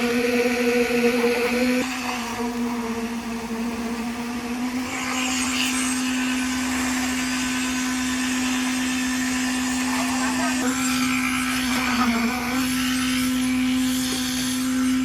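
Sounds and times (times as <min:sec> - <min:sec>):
small machine humming: 0:00.0 - 0:15.0.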